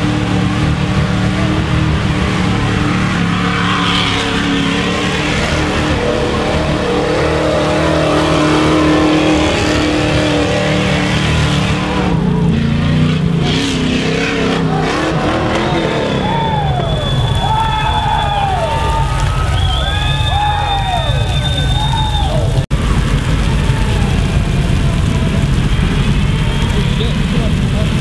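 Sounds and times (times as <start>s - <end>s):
engine running at high revs: 0.0s - 28.0s
tyres churning through mud: 0.0s - 28.0s.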